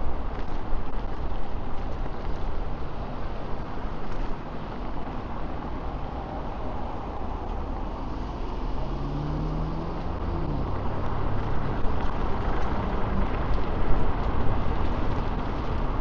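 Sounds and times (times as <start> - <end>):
vehicle hum: 0.0 - 16.0
wind and road noise on microphone: 0.0 - 16.0.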